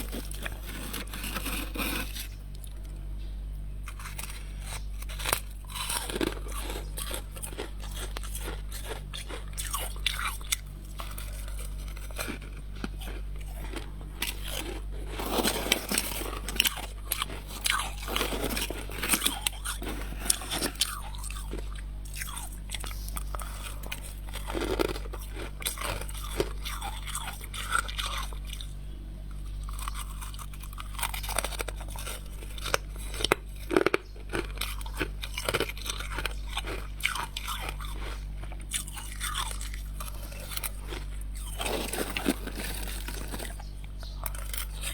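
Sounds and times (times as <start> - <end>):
frost being chewed: 0.0 - 3.0, 3.8 - 44.9
steady low hum: 0.0 - 44.9.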